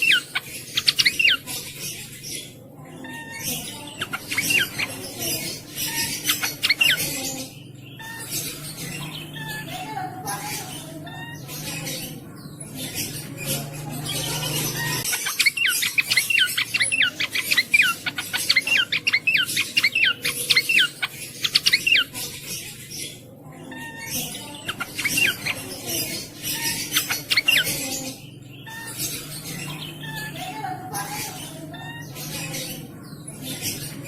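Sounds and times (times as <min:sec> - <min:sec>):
songbird singing: 0:00.0 - 0:34.0.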